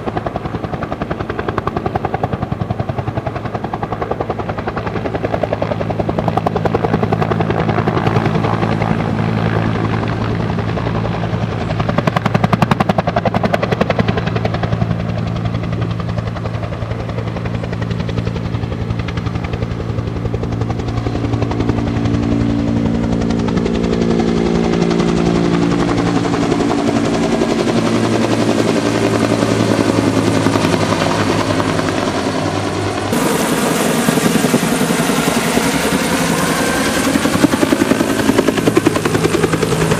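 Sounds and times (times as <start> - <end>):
helicopter rotor beating: 0.0 - 39.9
whining turbine: 0.0 - 39.9.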